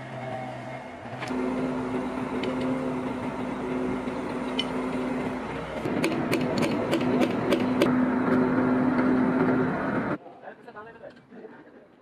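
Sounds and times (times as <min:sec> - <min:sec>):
crane engine humming: 0:00.0 - 0:10.2.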